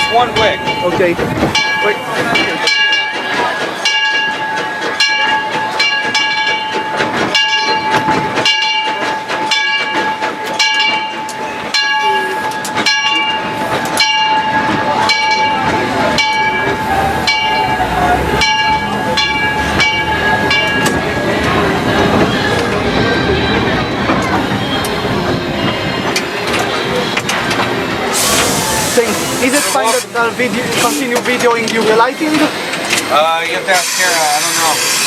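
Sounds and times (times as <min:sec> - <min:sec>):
steam locomotive knocking: 0:00.0 - 0:35.0.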